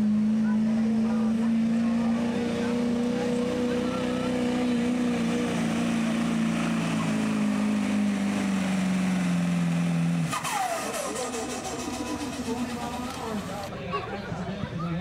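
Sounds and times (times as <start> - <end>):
diesel truck engine running hard: 0.0 - 15.0.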